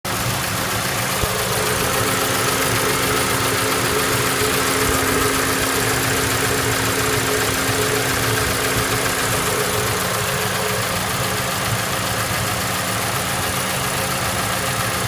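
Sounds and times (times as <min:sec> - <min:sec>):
car engine running with abnormal noise: 0:00.1 - 0:15.0.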